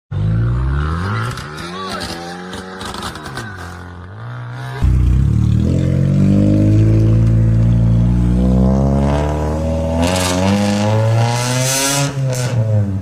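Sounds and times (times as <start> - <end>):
car engine with wavering pitch: 0.1 - 13.0.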